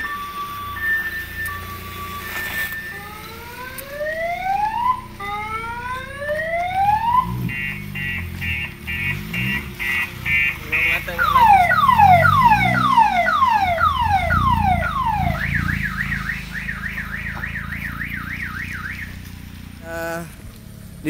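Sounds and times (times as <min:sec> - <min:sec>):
electronic siren: 0:00.0 - 0:19.4
car engines rumbling: 0:00.0 - 0:21.0.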